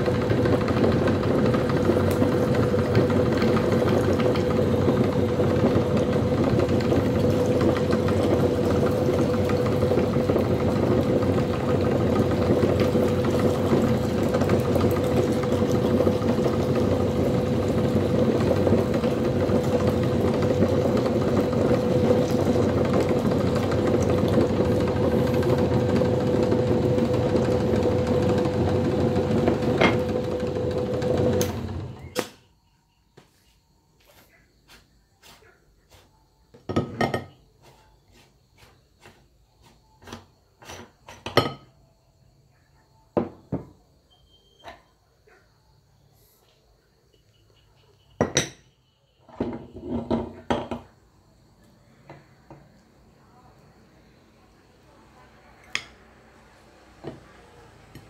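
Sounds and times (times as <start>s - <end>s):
meat grinder whining hum: 0.0s - 33.5s, 34.7s - 41.3s, 49.2s - 58.0s.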